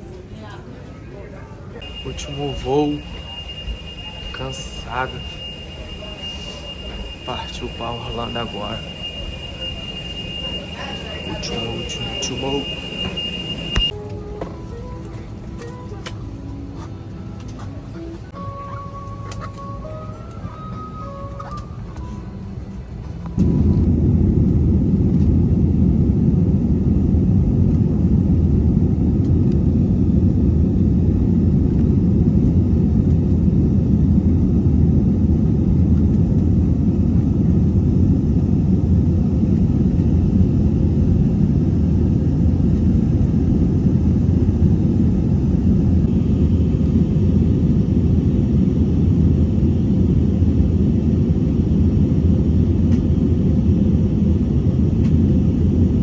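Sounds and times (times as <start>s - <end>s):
airliner cabin rumble: 1.6s - 56.0s.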